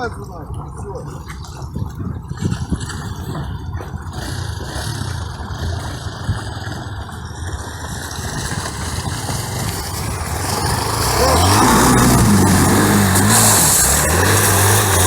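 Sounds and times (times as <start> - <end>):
motorcycle engine at low revs: 2.4 - 15.0.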